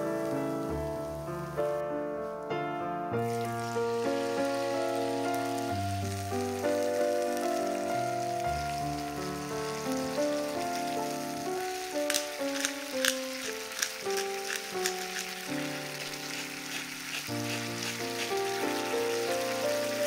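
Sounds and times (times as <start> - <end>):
tomatoes sizzling in frying pan: 0.0 - 1.6, 3.2 - 20.0
background music: 0.0 - 20.0.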